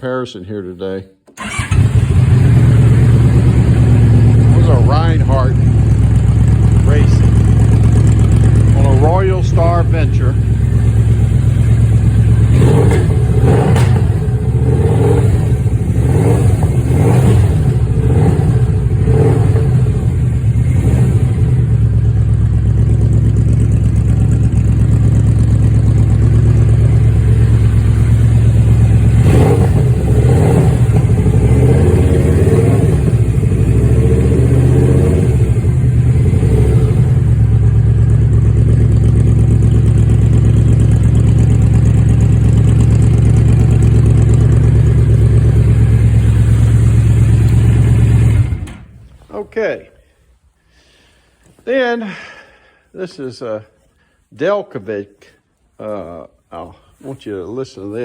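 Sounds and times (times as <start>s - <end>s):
engine revving: 1.4s - 49.2s
motorcycle engine idling: 1.4s - 49.4s.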